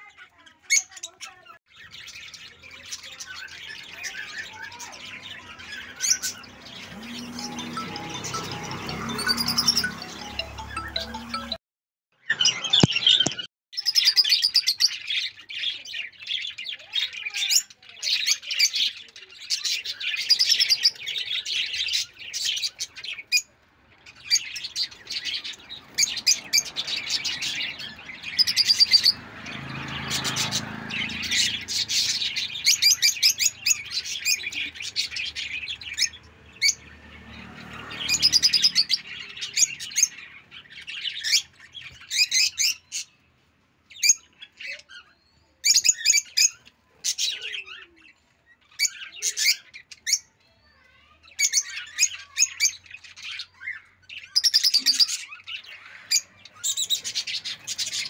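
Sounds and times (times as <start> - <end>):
birds chirping high-pitched: 0.0 - 11.6, 12.2 - 58.0.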